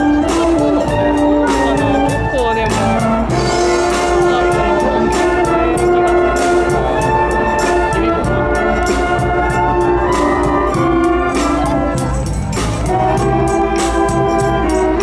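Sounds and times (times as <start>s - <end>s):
brass band playing: 0.0s - 15.0s
drum beat: 0.0s - 15.0s.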